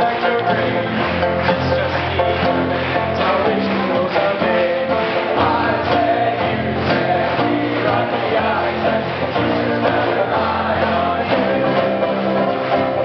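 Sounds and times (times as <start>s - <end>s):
acoustic guitars strumming: 0.0s - 13.0s
banjo: 0.0s - 13.0s
voices singing: 0.0s - 13.0s.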